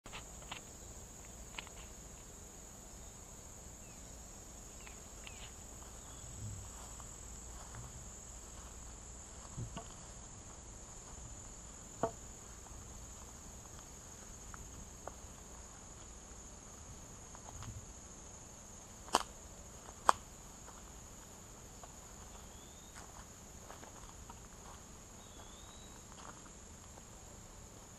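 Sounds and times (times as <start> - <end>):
insect chorus drone: 0.1 - 27.9.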